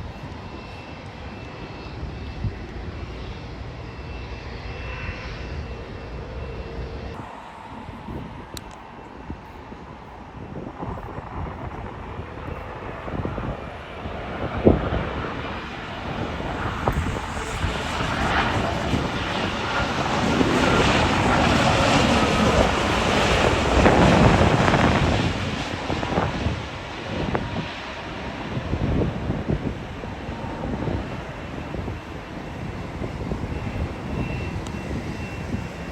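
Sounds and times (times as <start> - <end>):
airliner engines roaring: 0.0 - 35.9.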